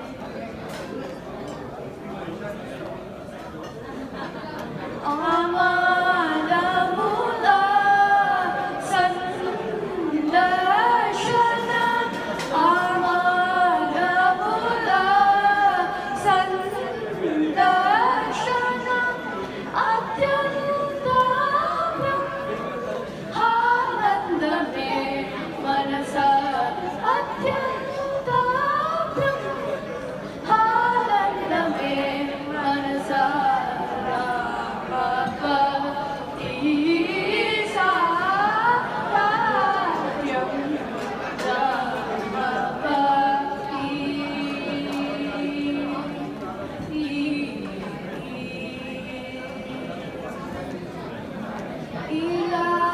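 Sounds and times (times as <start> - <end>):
girls singing unaccompanied: 5.0 - 50.1, 52.1 - 52.9.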